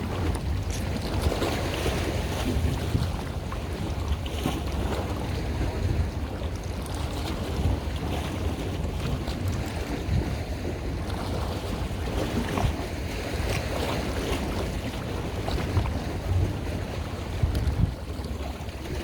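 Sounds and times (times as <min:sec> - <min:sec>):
water and waves washing: 0:00.0 - 0:19.0
wind buffeting microphone: 0:00.0 - 0:19.0.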